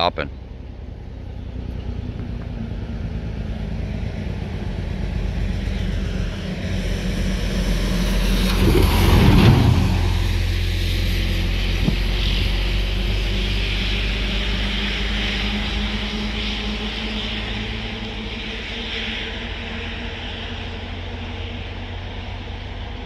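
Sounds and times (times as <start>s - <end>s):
locomotive engine drone: 0.0s - 23.0s
loud rushing swell: 2.6s - 22.8s.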